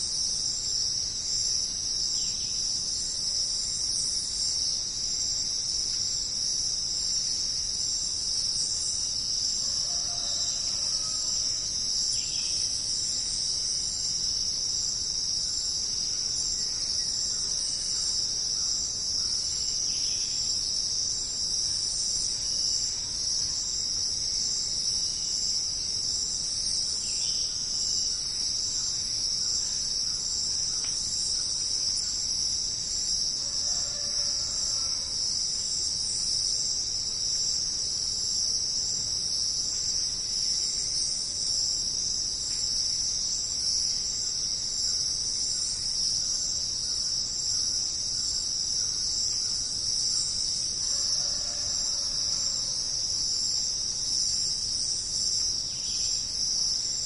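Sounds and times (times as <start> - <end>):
insect chorus chirring: 0.0 - 57.0.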